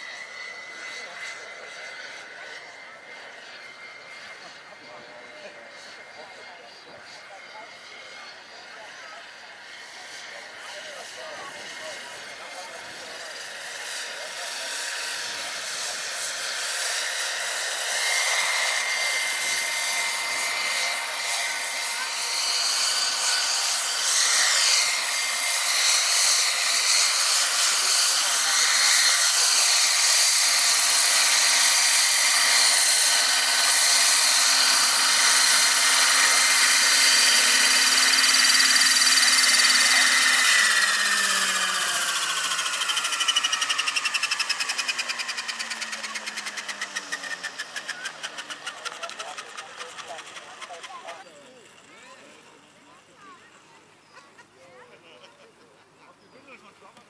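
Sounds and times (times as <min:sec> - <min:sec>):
model helicopter rotor whining: 0:00.0 - 0:55.6.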